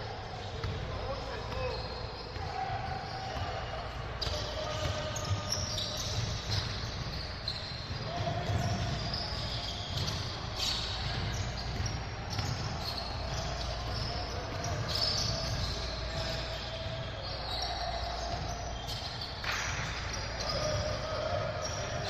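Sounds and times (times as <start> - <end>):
basketballs bouncing on gym floor: 0.3 - 22.0.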